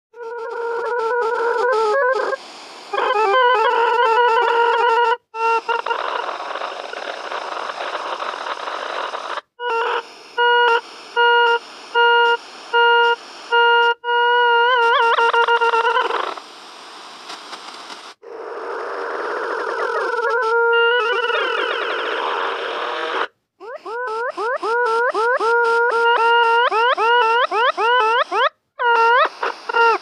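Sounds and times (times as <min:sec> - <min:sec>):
static-like hiss: 0:00.4 - 0:30.0.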